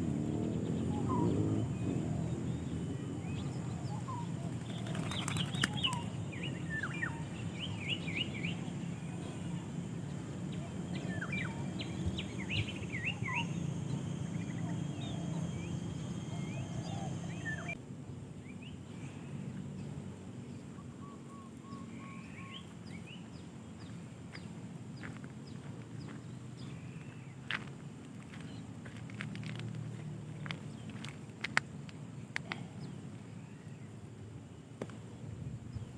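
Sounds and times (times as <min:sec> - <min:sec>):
songbird chirping: 0:00.0 - 0:17.8, 0:18.4 - 0:35.9
low hum: 0:00.0 - 0:35.9.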